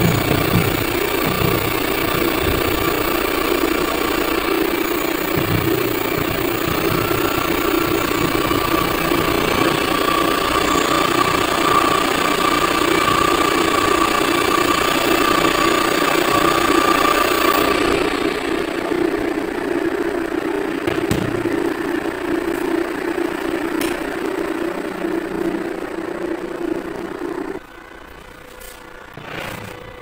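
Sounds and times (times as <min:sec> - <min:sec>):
electric motor humming and whining: 0:00.0 - 0:30.0.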